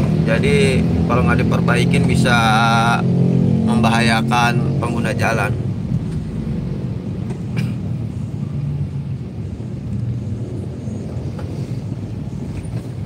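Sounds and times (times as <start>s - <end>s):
car engine rumble: 0.0s - 13.0s
tyres on road: 0.0s - 13.0s.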